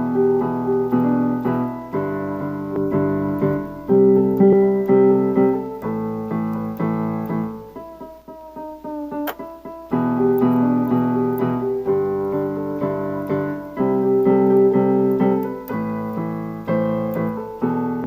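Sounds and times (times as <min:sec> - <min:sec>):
electric piano chords: 0:00.0 - 0:18.0.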